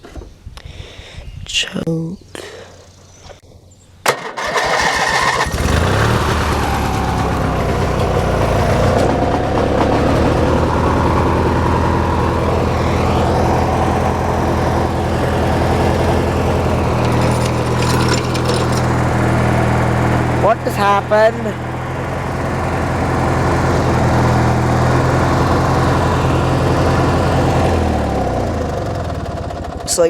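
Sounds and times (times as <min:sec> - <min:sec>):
lawn tractor engine starting and running: 0:04.0 - 0:30.0.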